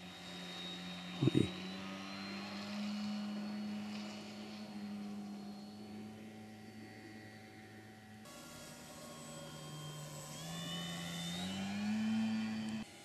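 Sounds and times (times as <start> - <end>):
model plane motor at high throttle: 0.0 - 13.0.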